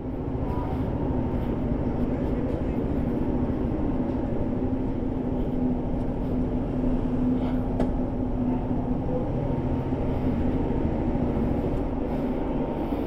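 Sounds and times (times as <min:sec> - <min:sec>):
engines droning: 0:00.0 - 0:13.0.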